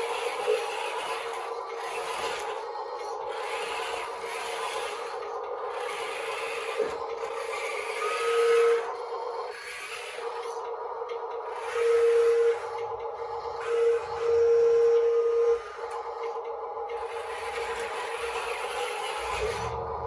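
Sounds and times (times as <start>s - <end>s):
hydraulic pump whining: 0.0s - 20.0s.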